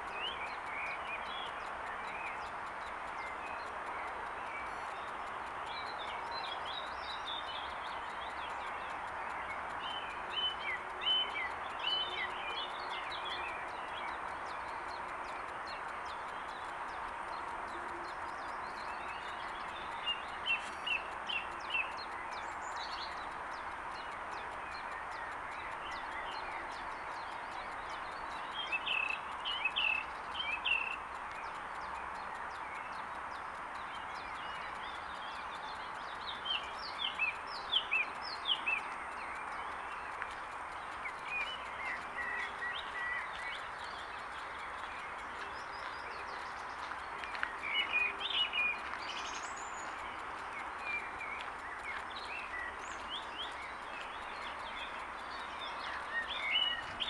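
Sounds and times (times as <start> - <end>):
songbirds chirping: 0.0 - 57.0
steady background hiss: 0.0 - 57.0.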